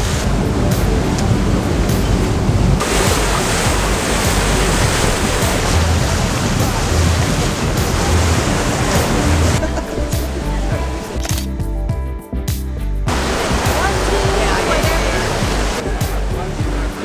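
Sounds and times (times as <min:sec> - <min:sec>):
wind buffeting microphone: 0:00.0 - 0:11.2, 0:13.1 - 0:17.0
rushing wind and water: 0:00.0 - 0:11.5, 0:13.1 - 0:17.0.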